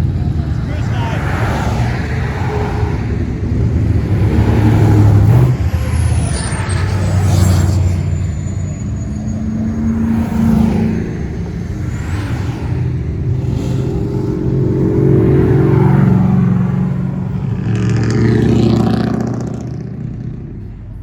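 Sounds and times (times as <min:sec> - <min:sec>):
classic car engines rumbling past: 0:00.0 - 0:21.0.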